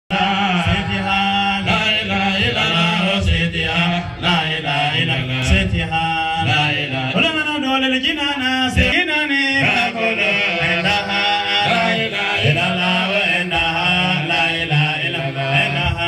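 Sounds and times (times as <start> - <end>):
man chanting a prayer: 0.1 - 16.0.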